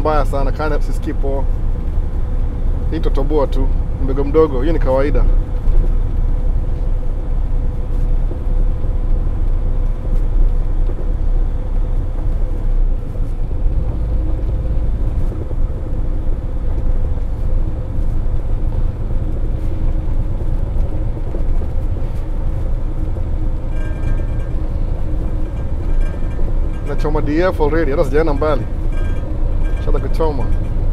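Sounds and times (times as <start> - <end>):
faint constant hum: 0.0 - 30.9
truck engine and road rumble: 0.0 - 30.9.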